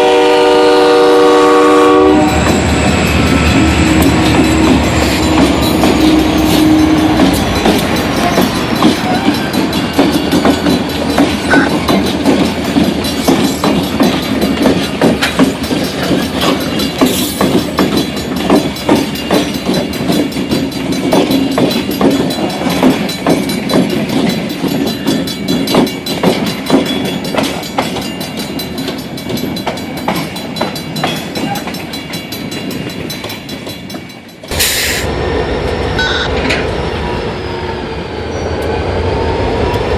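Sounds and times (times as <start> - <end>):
freight train rolling past: 0.0 - 39.9
train wheels clicking over rail joints: 1.7 - 35.1.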